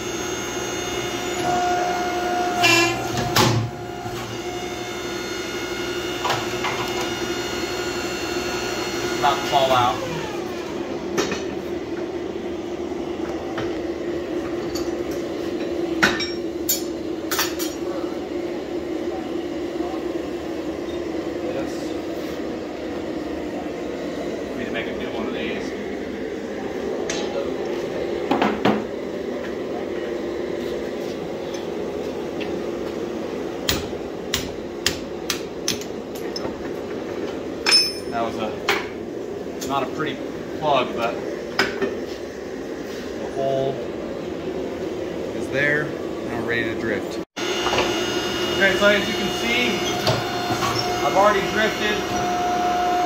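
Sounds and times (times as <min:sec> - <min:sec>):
machinery humming: 0:00.0 - 0:53.0.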